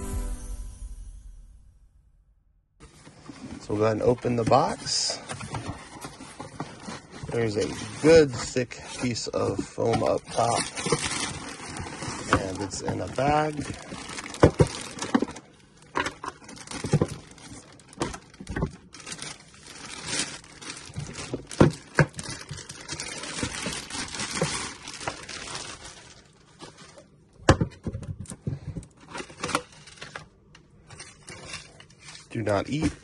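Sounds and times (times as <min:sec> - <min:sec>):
plastic bag crinkling: 0:03.1 - 0:27.2, 0:28.8 - 0:33.0.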